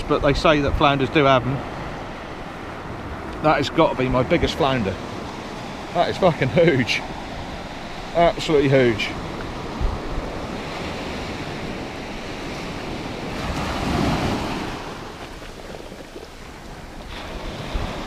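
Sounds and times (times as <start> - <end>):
small waves washing on sand: 0.0 - 18.0.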